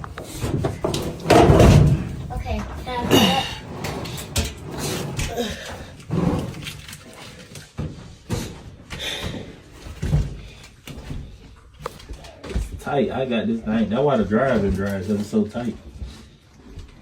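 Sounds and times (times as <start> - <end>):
objects being handled and moved: 0.0 - 17.0.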